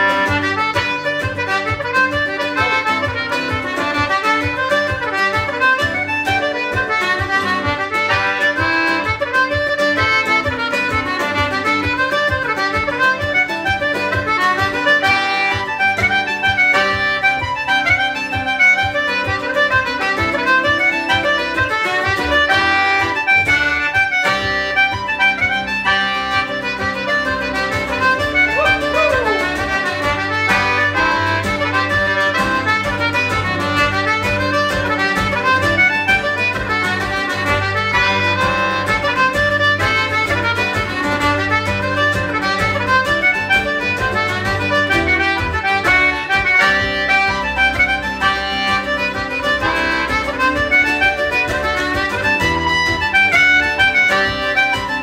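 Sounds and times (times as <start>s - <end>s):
concertina melody: 0.0s - 55.0s
strummed accompaniment: 0.0s - 55.0s.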